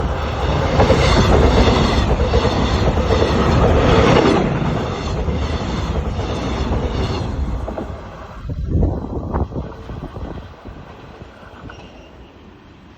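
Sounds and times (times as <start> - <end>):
train rumbling past on rails: 0.0 - 12.9.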